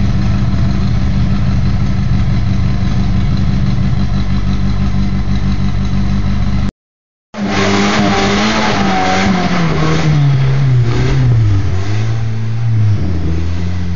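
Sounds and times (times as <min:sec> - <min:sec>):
buggy engine under throttle: 0:00.0 - 0:06.7, 0:07.4 - 0:13.9.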